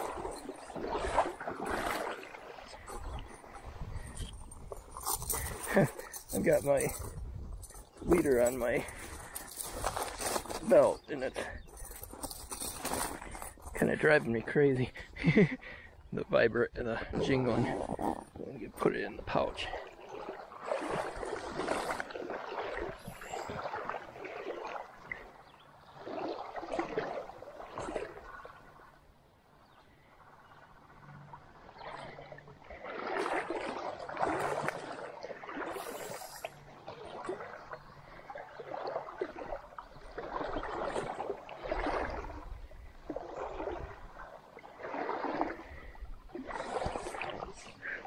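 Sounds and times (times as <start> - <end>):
creek water splashing: 0.0 - 48.0.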